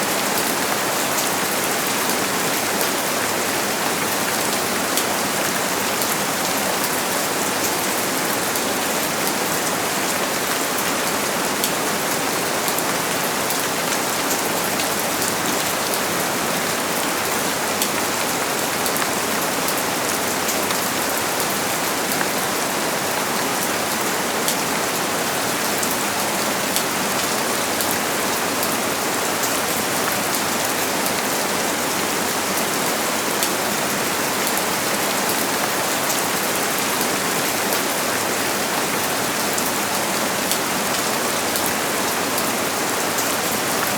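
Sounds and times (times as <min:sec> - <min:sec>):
steady rain patter: 0:00.0 - 0:43.9.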